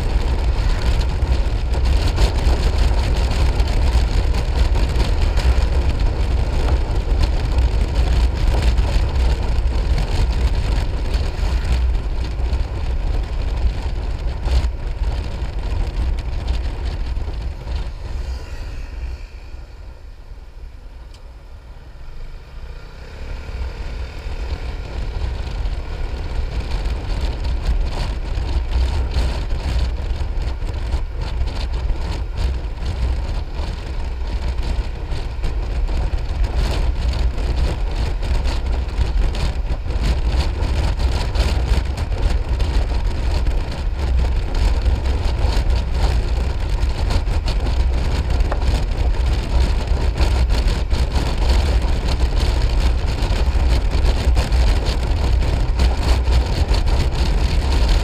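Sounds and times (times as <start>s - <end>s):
scooter engine: 0.0s - 58.0s
wind buffeting on microphone: 0.0s - 58.0s.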